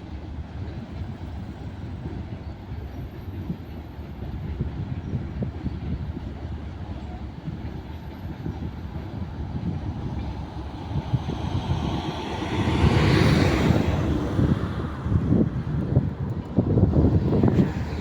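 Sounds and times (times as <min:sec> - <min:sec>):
freight train rumbling past: 0:00.0 - 0:18.0
wind gusts on microphone: 0:00.0 - 0:18.0.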